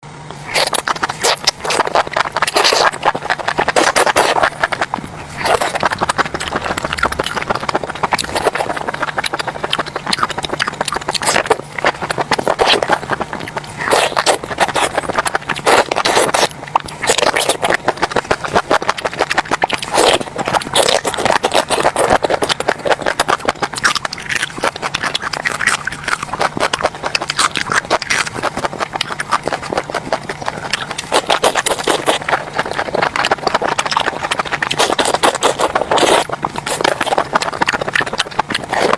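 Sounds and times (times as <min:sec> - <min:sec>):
chewing and crunching: 0:00.4 - 0:38.9
rapid irregular clicks and crackles: 0:00.4 - 0:38.9.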